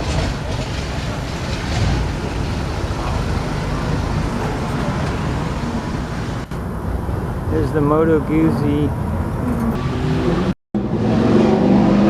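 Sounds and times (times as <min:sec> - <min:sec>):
faint voices: 0:00.0 - 0:09.8
traffic rumble: 0:00.0 - 0:12.0.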